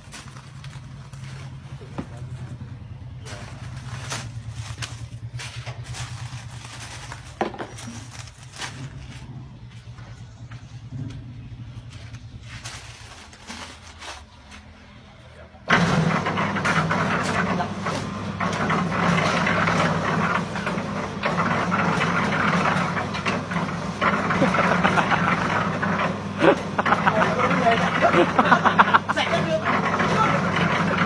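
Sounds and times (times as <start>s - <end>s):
machine motor running loudly: 0.0s - 31.0s.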